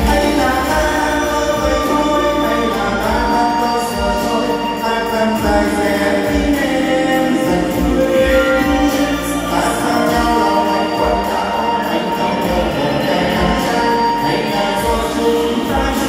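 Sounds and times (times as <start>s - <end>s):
karaoke backing track with beat: 0.0s - 16.0s
man singing through a microphone: 0.0s - 16.0s.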